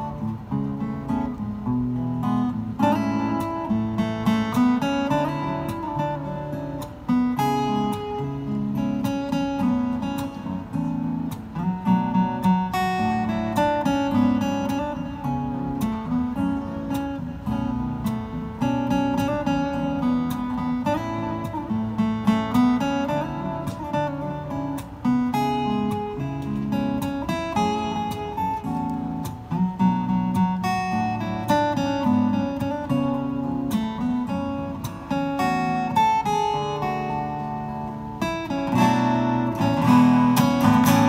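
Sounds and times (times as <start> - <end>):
acoustic guitar duet: 0.0 - 41.0.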